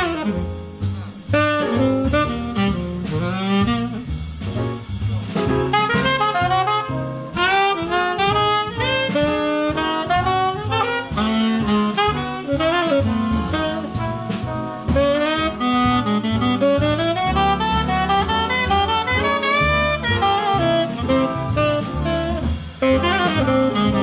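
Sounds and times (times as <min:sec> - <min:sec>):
tenor saxophone solo: 0:00.0 - 0:04.3, 0:05.5 - 0:24.0
acoustic bass: 0:00.0 - 0:24.0
drums: 0:00.0 - 0:24.0.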